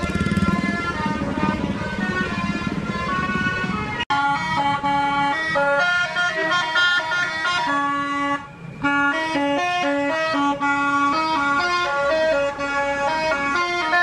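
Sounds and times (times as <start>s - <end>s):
bus horn playing a tune: 0.0s - 14.0s.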